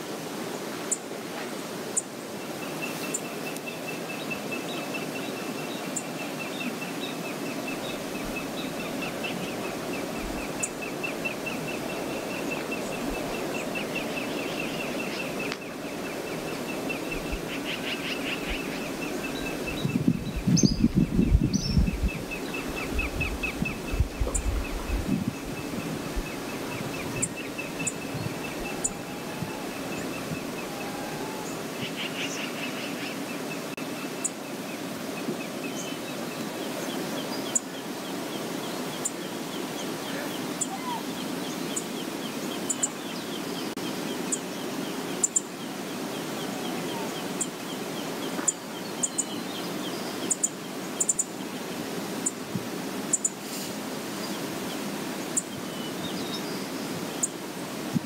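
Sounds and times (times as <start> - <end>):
flowing river water: 0.0 - 58.0
birds chirping: 2.4 - 52.4.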